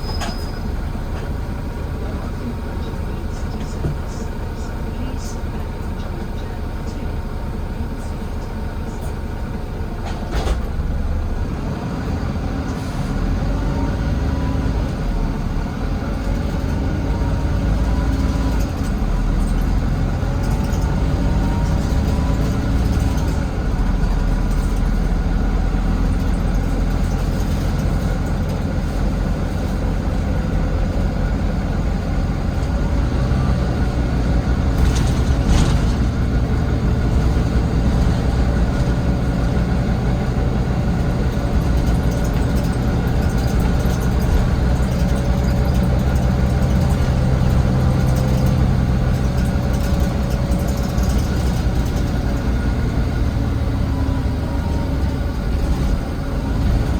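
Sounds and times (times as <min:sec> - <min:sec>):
bus engine droning: 0:00.0 - 0:56.9
engine whine: 0:00.0 - 0:56.9.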